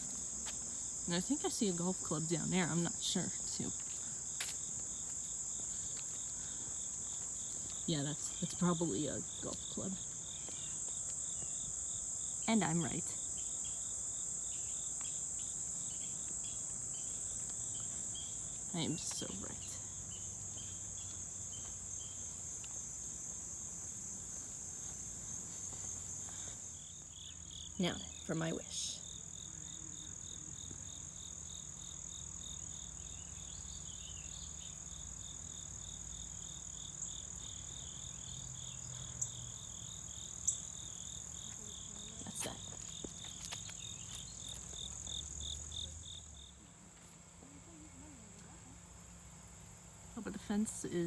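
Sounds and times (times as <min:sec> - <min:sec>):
insects trilling: 0:00.0 - 0:51.0.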